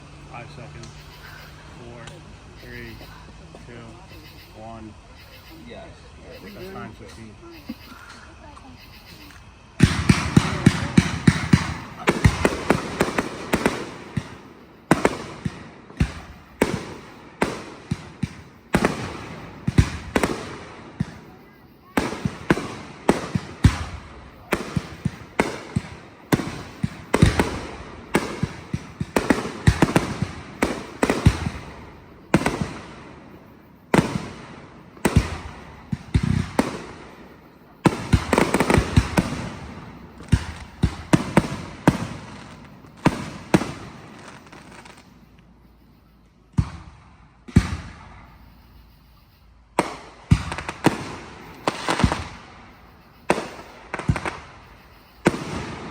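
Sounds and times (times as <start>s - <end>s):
fireworks bangs: 0.0s - 55.9s.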